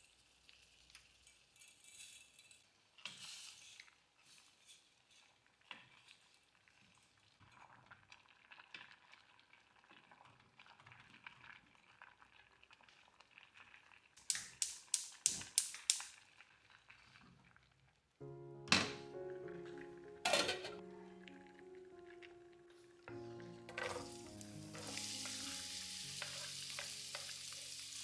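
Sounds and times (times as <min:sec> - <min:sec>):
food crackling and bubbling: 0:00.0 - 0:18.2, 0:20.7 - 0:28.0.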